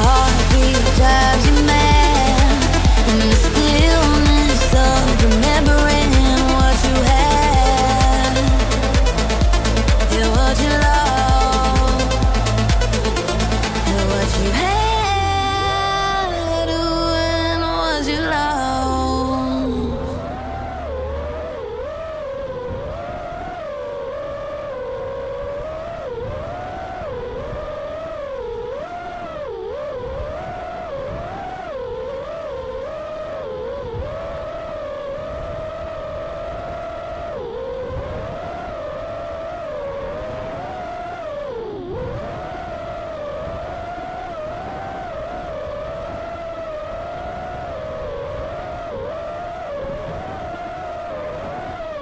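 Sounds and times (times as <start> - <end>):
drone propellers whining: 0.0 - 52.0
wind rush: 0.0 - 52.0.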